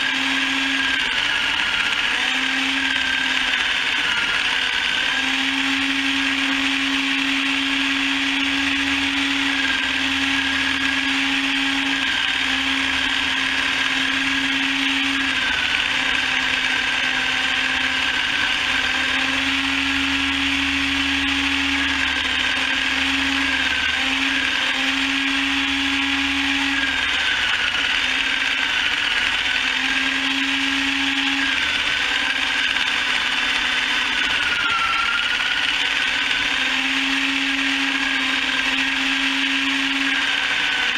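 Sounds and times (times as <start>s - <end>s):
chicken plucker whirring: 0.0s - 40.9s
machine whine: 0.0s - 40.9s.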